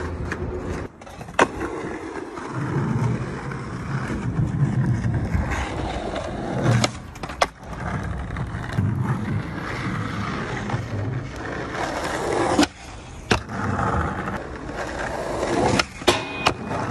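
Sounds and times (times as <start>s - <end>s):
skateboard clacking on ground: 0.0s - 9.6s, 10.5s - 16.9s
skateboard wheels rolling on stone: 0.0s - 16.9s.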